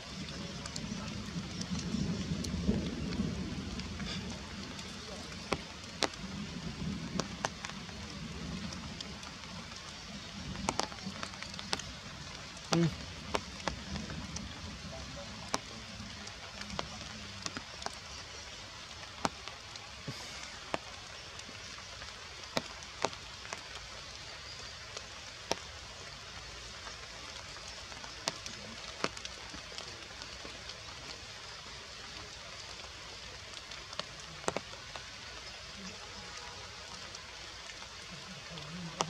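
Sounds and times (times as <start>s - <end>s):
rain falling on leaves: 0.0s - 39.0s
sharp water drips: 0.0s - 39.0s.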